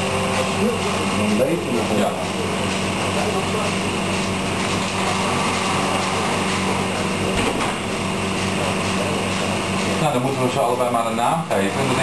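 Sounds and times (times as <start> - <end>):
machine drone with low hum: 0.0 - 12.0.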